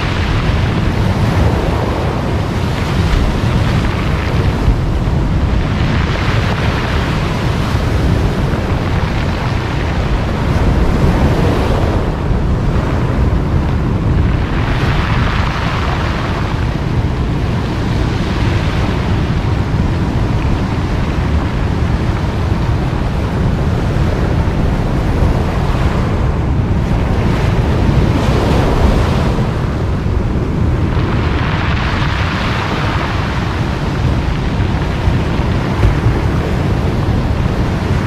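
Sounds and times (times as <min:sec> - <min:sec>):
surf breaking on cobble beach: 0:00.0 - 0:38.0
wind rumble on microphone: 0:00.0 - 0:38.0.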